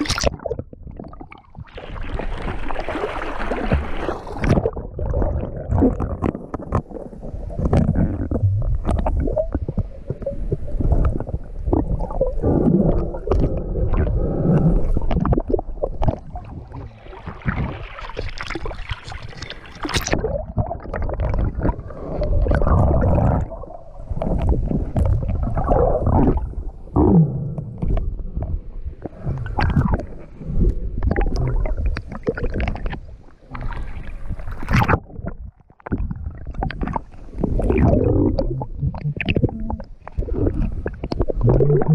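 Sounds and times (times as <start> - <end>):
muffled underwater rumble: 0.0 - 2.8, 3.6 - 41.9.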